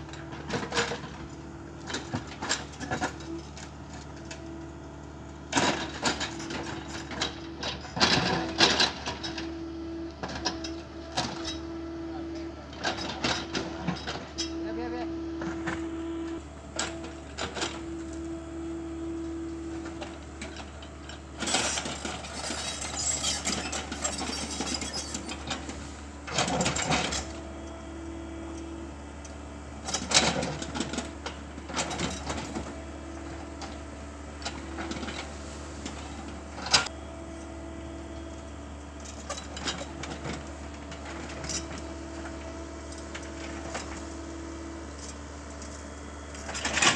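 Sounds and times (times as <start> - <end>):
excavator diesel engine: 0.0 - 46.9
hydraulic whine: 0.0 - 46.9.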